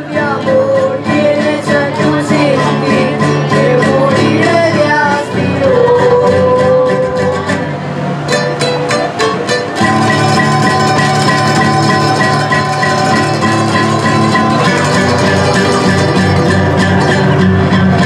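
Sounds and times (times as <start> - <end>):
acoustic guitars strumming: 0.0 - 18.0.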